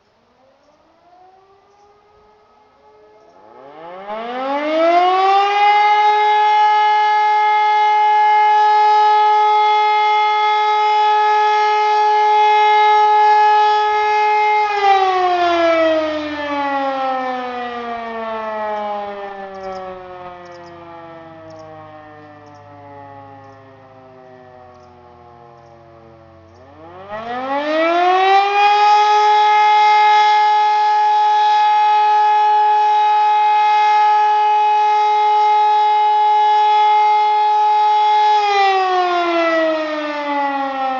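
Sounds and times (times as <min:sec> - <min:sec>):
civil defence siren wailing: 0:00.0 - 0:40.9.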